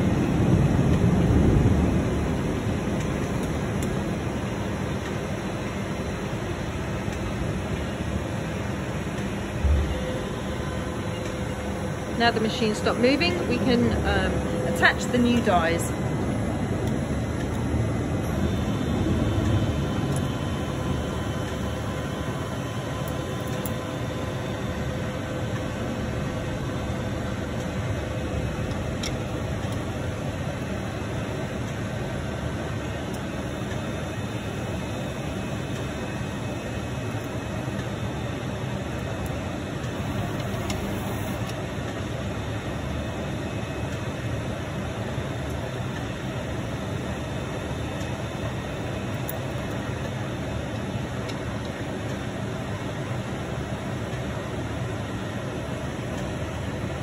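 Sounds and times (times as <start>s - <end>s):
machine humming and hissing: 0.0s - 57.0s.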